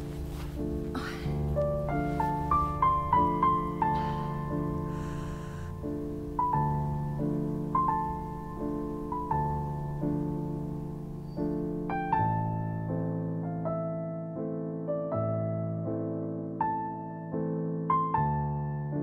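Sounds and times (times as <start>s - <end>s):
piano music with low chords: 0.0s - 19.0s.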